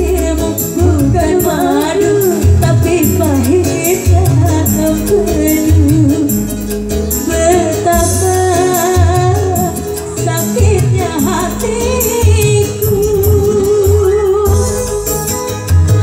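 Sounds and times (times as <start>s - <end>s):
keyboard backing music with beat: 0.0s - 16.0s
woman singing into a microphone: 0.0s - 16.0s.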